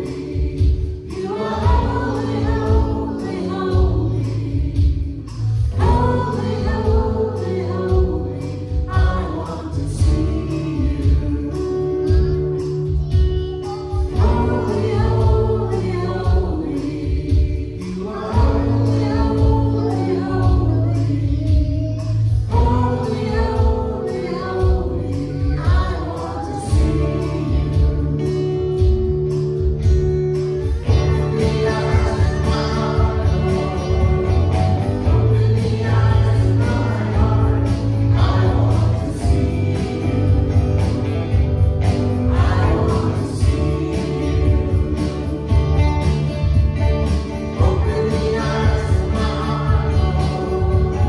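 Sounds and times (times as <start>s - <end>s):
people singing: 0.0s - 51.0s
worship song by band: 0.0s - 51.0s.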